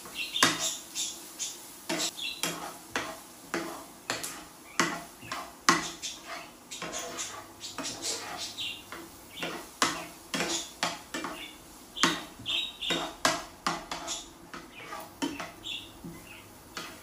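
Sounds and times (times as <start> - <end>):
spoon scraping frying pan: 0.3 - 17.0.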